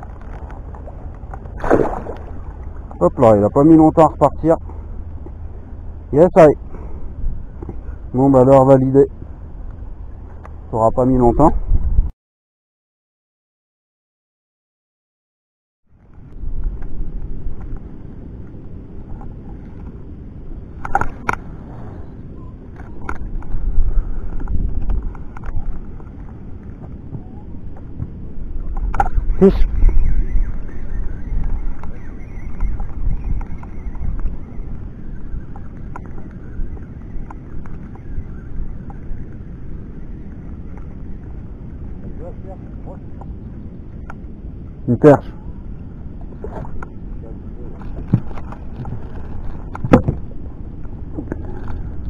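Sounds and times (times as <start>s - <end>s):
wind rumble on microphone: 0.0s - 12.1s, 15.9s - 52.0s.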